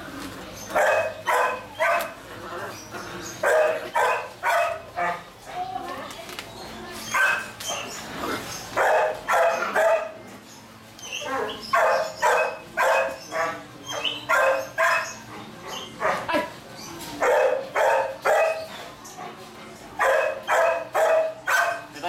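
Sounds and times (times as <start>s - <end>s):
puppies barking: 0.0s - 5.5s, 7.0s - 22.0s.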